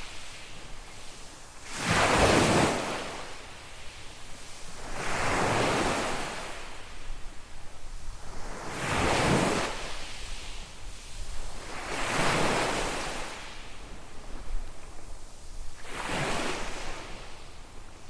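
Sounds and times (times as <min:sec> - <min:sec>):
small waves breaking on beach: 0:00.0 - 0:18.0.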